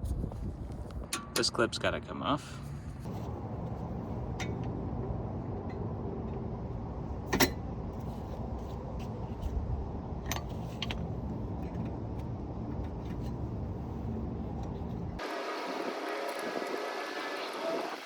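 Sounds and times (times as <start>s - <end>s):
low background rumble: 0.0s - 15.2s.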